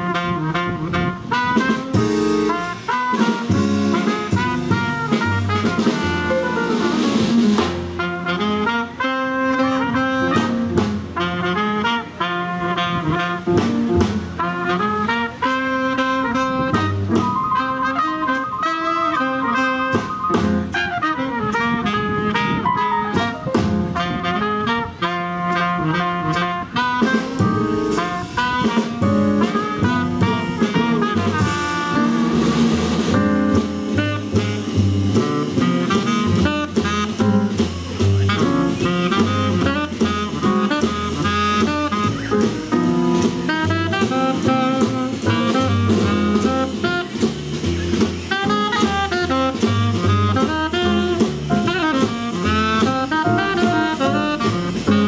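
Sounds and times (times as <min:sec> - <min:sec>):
drum kit: 0:00.0 - 0:55.0
piano: 0:00.0 - 0:55.0
tenor saxophone: 0:00.0 - 0:55.0
trumpet: 0:00.0 - 0:55.0
upright bass: 0:00.0 - 0:55.0.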